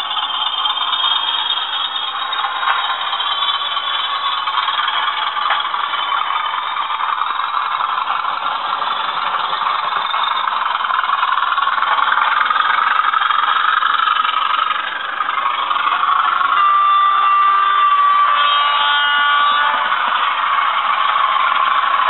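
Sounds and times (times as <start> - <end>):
diesel engine sound from small speakers: 0.0 - 22.0
steady tones: 0.0 - 22.0.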